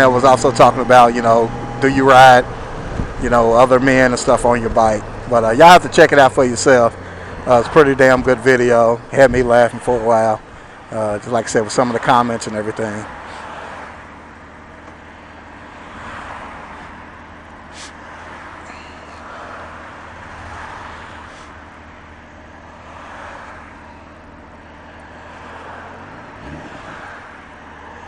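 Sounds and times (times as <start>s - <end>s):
motorcycle engine cruising: 0.0s - 28.0s
road and wind noise: 0.0s - 28.0s.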